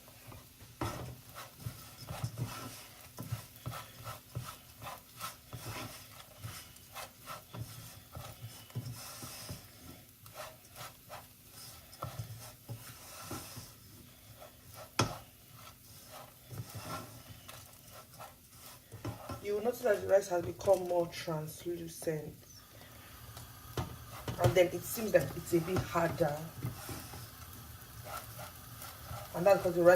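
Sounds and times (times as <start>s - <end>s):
rice frying: 0.0s - 29.9s
spoon stirring rice in a pot: 0.0s - 29.9s.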